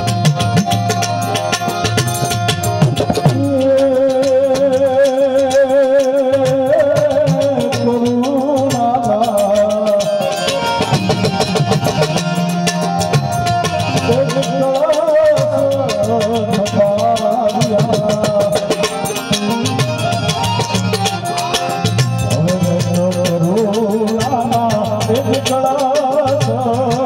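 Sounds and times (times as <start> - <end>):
steady dense percussion: 0.0 - 27.0.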